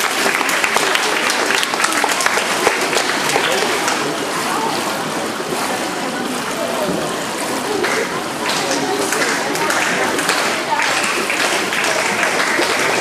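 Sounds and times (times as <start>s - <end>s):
audience applauding: 0.0s - 6.5s, 7.3s - 13.0s.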